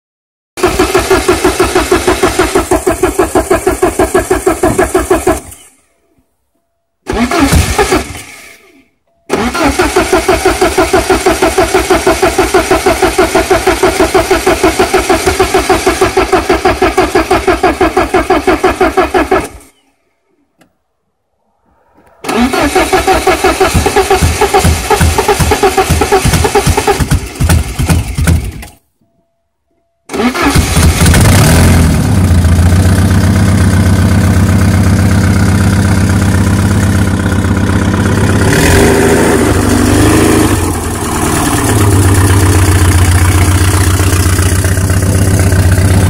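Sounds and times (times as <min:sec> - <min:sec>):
engine cranking by starter: 0:00.6 - 0:06.0, 0:07.0 - 0:20.7, 0:22.1 - 0:28.8, 0:30.1 - 0:46.0.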